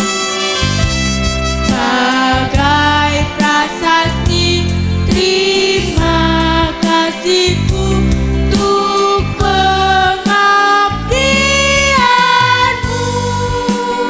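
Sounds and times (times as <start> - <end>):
musical accompaniment: 0.0 - 14.0
girls choir singing: 1.7 - 14.0.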